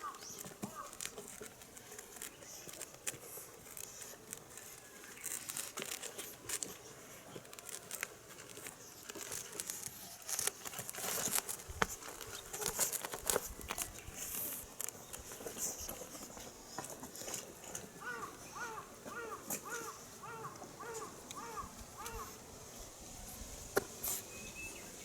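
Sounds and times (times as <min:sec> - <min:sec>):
kittens scrabbling and rustling: 0:00.0 - 0:24.4.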